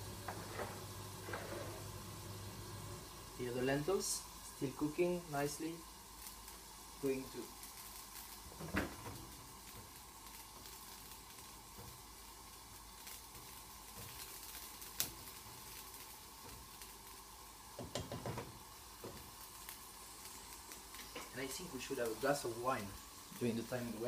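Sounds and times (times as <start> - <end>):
hiss from gas hob: 0.0 - 24.0.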